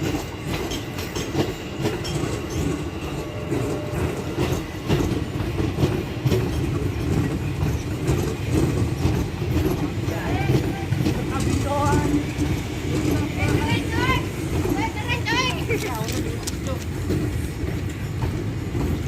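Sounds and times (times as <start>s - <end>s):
train wheels rumbling over rail joints: 0.0s - 19.0s.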